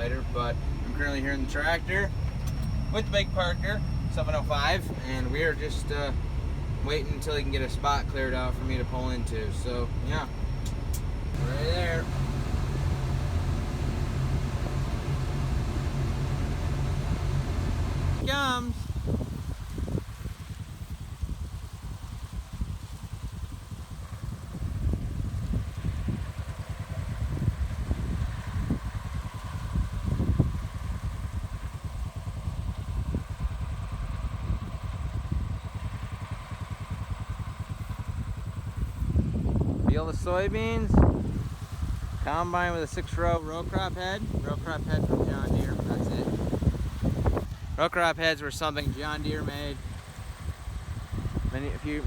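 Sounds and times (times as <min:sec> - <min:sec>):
tractor engine droning: 0:00.0 - 0:21.7, 0:25.4 - 0:52.0.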